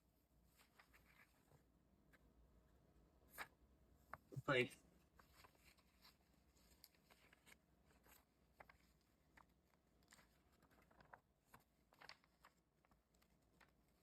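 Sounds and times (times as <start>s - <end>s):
paper rustling: 0.4s - 2.2s, 3.2s - 14.0s.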